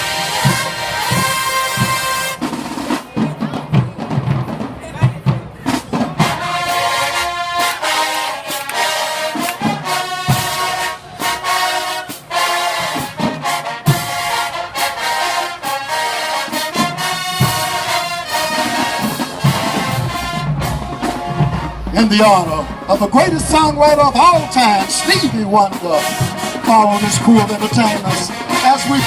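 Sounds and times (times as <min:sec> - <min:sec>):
brass section playing melody: 0:00.0 - 0:03.2, 0:05.9 - 0:29.0.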